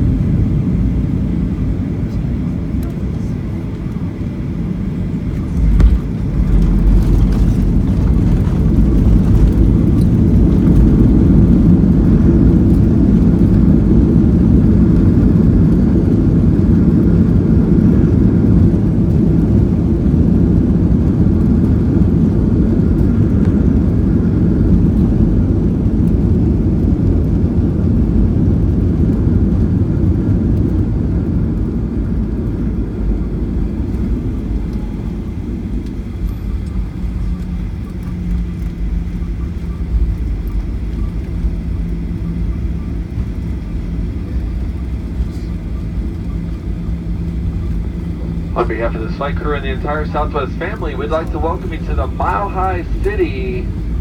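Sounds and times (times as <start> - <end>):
jet engine and runway rumble: 0.0 - 54.0.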